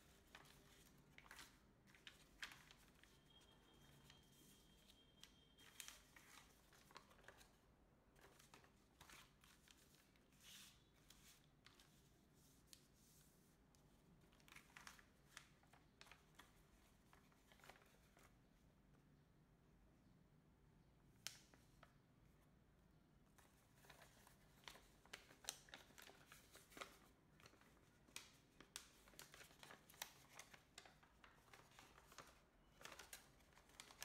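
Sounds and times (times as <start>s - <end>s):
paper rustling and crinkling: 0.0s - 18.4s, 23.3s - 34.0s.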